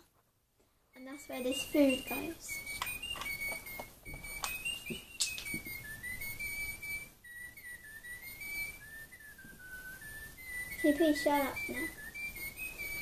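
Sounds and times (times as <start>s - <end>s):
toy bird whistling a tune: 1.0s - 13.0s.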